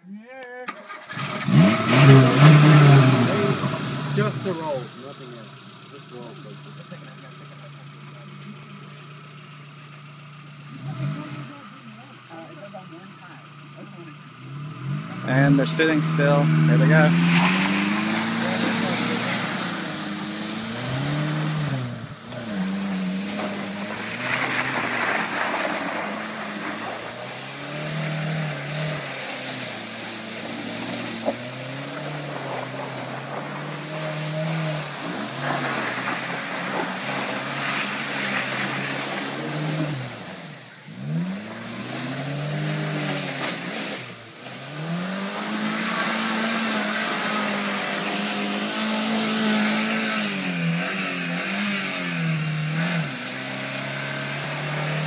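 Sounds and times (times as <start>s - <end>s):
car engine revving: 0.0s - 55.0s
wheels spinning through mud: 0.7s - 55.0s.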